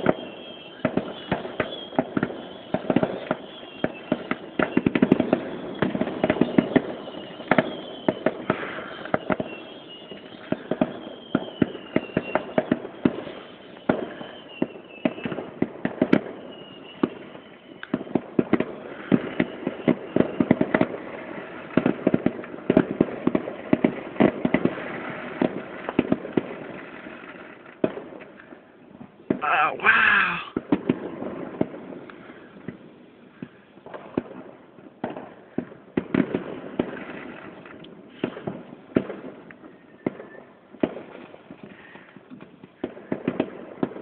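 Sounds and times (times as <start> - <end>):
wavering firework whistle: 0.0 - 28.9, 36.6 - 43.5
fireworks bangs and crackles: 0.0 - 44.0.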